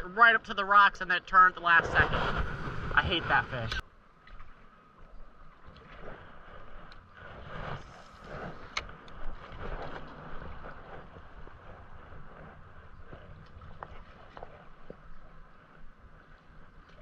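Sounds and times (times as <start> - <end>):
wind rumbling on microphone: 0.0 - 3.8, 4.4 - 17.0.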